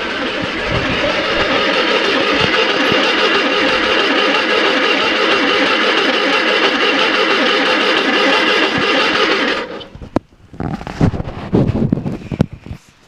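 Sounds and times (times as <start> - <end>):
starter motor cranking engine: 0.0 - 10.9.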